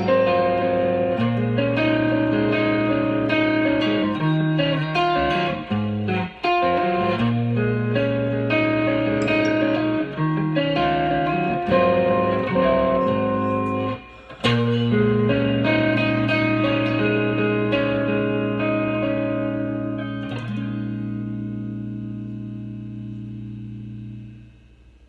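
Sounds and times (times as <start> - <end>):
guitar music with bass line: 0.0 - 24.8.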